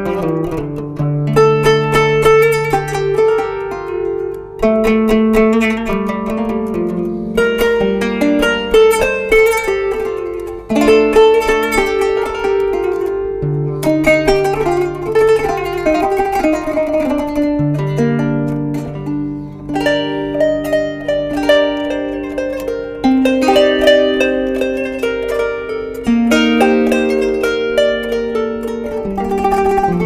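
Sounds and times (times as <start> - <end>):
plucked zither melody: 0.0 - 30.0.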